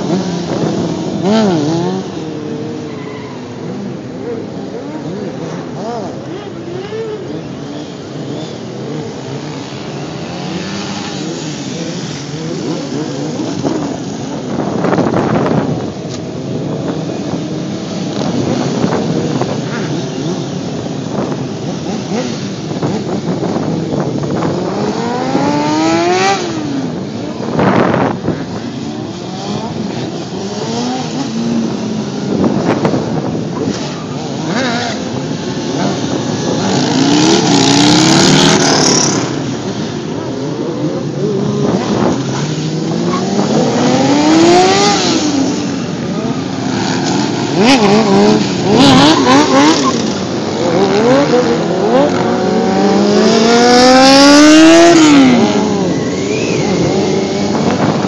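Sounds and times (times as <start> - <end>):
drone of motorcycles: 0.0 - 58.0
motorcycle engines revving: 0.0 - 58.0.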